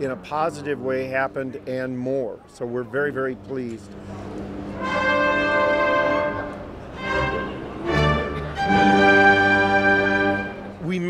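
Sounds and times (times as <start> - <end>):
orchestra playing held chords: 0.0 - 11.0.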